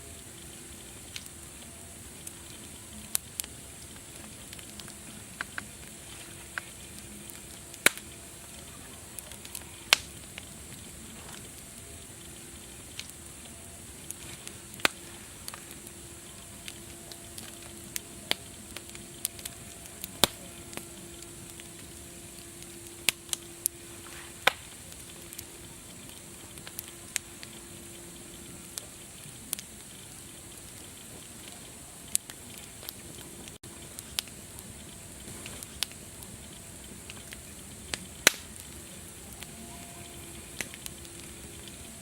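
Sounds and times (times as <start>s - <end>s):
faint low hum: 0.0s - 42.0s
wood fire crackling: 0.0s - 42.0s.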